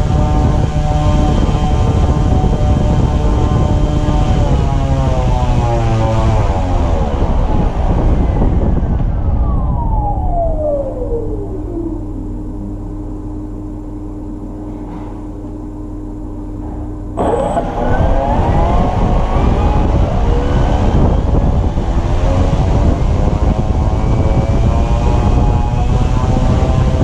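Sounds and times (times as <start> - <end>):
drone motor and propeller humming: 0.0 - 27.0.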